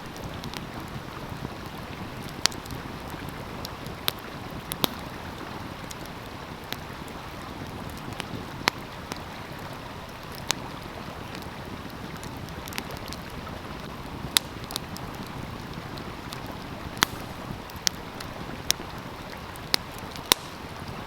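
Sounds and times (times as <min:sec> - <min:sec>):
stream running: 0:00.0 - 0:21.0
wood fire crackling: 0:00.0 - 0:21.0.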